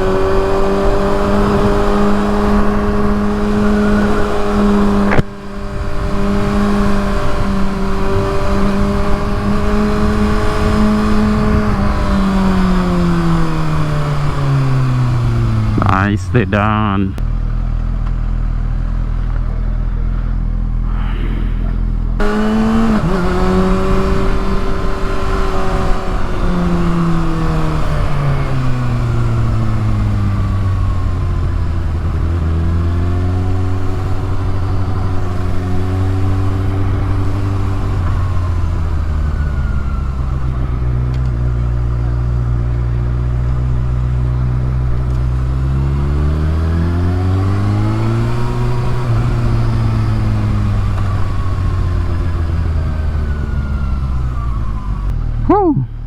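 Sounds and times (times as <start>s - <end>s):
motorcycle engine idling and revving: 0.0s - 15.8s, 17.2s - 20.8s, 21.7s - 56.0s.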